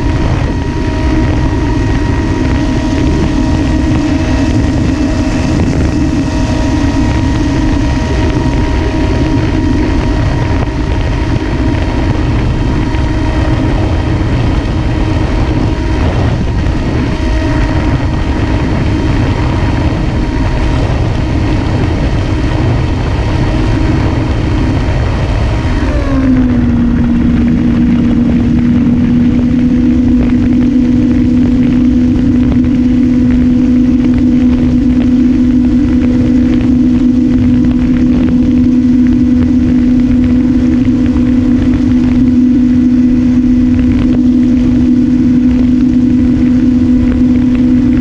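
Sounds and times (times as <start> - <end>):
airflow noise: 0.0 - 48.0
electric motor and propeller whine: 0.0 - 48.0
wind rumble on camera: 0.0 - 48.0.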